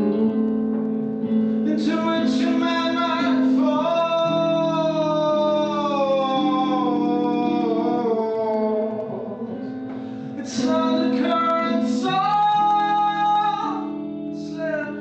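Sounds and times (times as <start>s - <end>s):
strummed acoustic guitar: 0.0s - 15.0s
person singing a long note: 1.7s - 15.0s.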